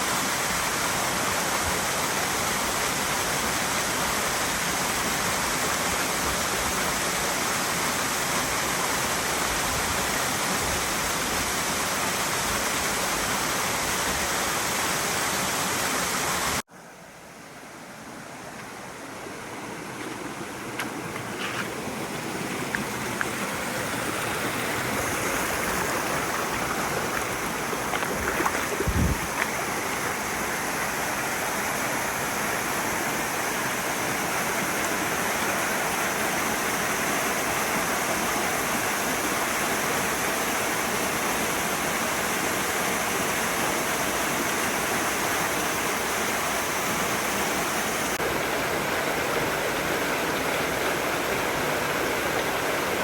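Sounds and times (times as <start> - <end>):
stream water rushing over rocks: 0.0 - 53.0.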